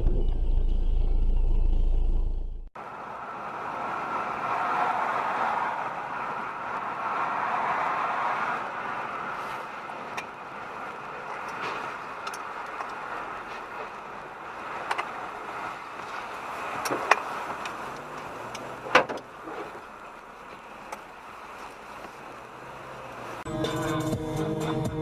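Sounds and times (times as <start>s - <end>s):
car road and engine noise: 0.0s - 25.0s.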